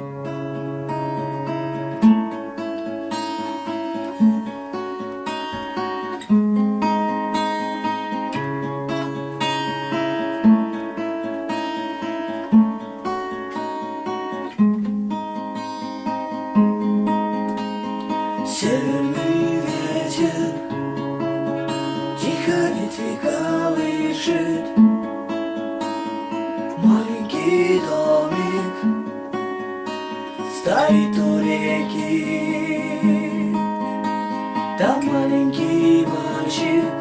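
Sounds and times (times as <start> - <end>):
acoustic guitar picking: 0.0 - 37.0.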